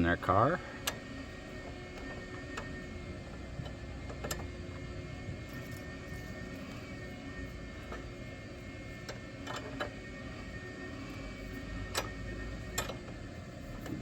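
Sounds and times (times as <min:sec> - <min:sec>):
machine droning with whine: 0:00.0 - 0:14.0.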